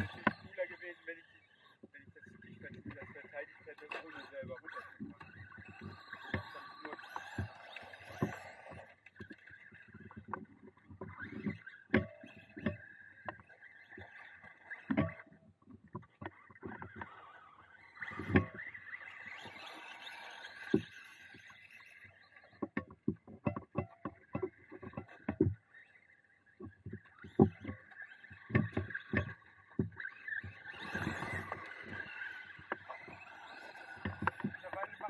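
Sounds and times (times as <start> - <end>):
toy truck electric motor whining: 0.0 - 23.0, 24.1 - 35.0.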